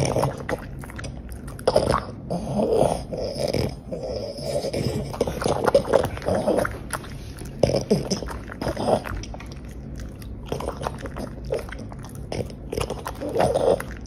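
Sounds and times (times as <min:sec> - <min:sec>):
dog chewing food: 0:00.0 - 0:14.0.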